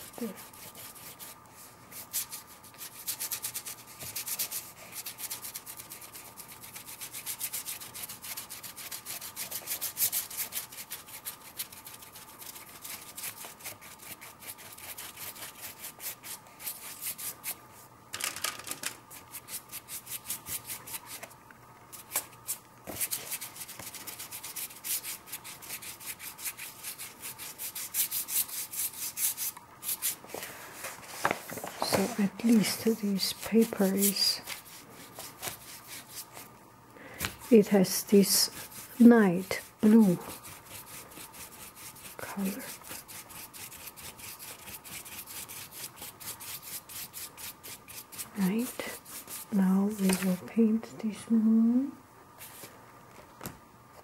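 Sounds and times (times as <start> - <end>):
paintbrush scrubbing paper: 0.0 - 17.8, 19.1 - 21.3, 22.0 - 30.2, 32.0 - 36.5, 37.4 - 50.2.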